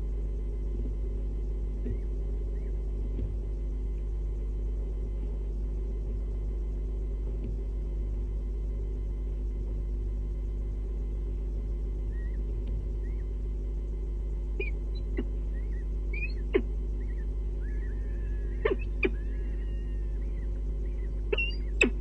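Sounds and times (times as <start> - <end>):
steady low hum: 0.0 - 22.0
birds chirping: 1.5 - 22.0.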